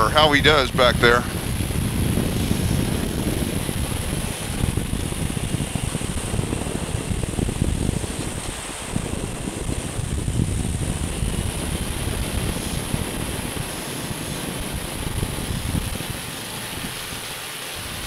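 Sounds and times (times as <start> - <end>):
engine and propeller: 0.0 - 18.0
wind buffeting microphone: 0.0 - 18.0.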